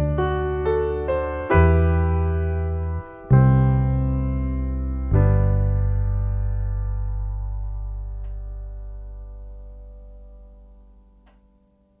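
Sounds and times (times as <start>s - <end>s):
sustained keyboard chords: 0.0s - 12.0s.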